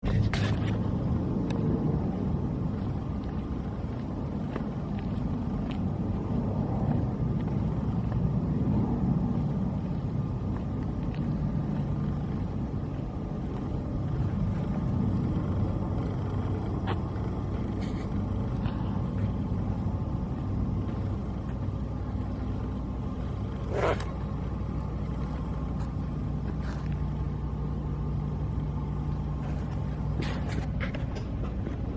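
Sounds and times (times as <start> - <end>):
engine rumbling: 0.0 - 31.9.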